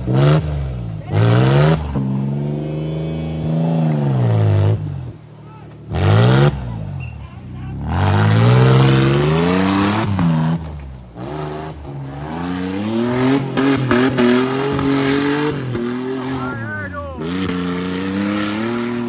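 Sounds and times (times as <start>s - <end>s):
engine revving hard: 0.0s - 5.2s, 5.9s - 7.0s, 7.6s - 19.0s.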